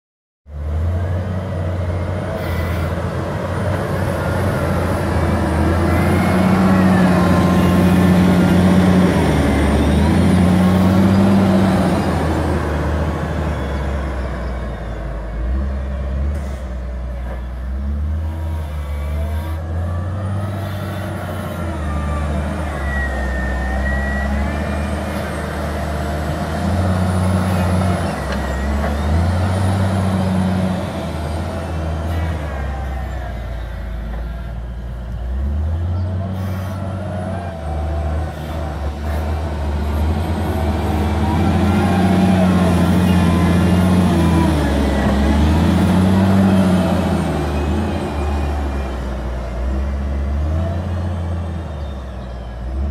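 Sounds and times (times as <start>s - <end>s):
wheel loader diesel engine: 0.5s - 52.9s.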